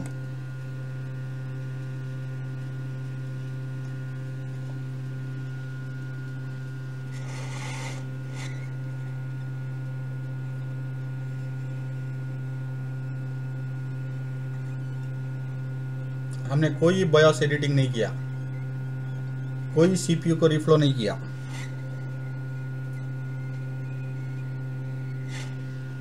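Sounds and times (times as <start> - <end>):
hot air blower humming: 0.0 - 26.0.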